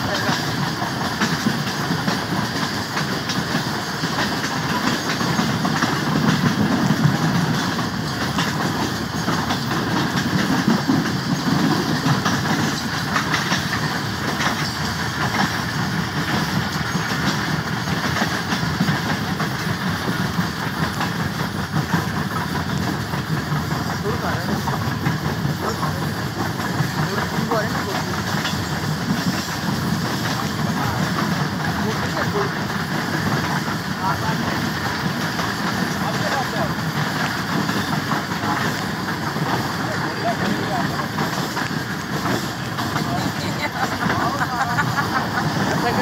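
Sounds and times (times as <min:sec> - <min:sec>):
train rumble: 0:00.0 - 0:46.0
wheels clacking over rail joints: 0:00.0 - 0:46.0.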